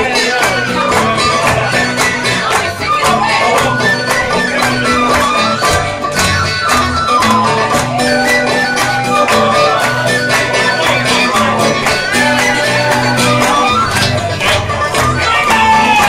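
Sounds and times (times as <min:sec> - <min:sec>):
banjo picking: 0:00.0 - 0:16.0
strummed guitar chords: 0:00.0 - 0:16.0
tin whistle melody: 0:00.5 - 0:16.0.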